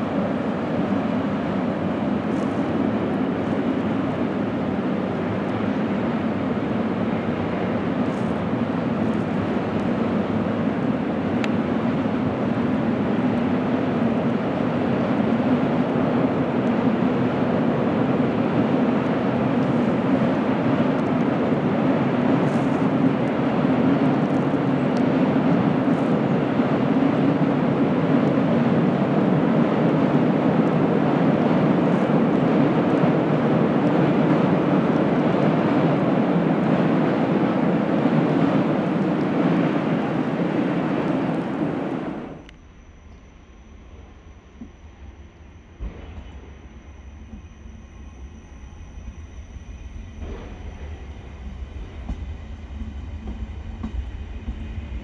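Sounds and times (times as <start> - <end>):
freight train rumbling: 0.0 - 43.2, 43.8 - 55.0.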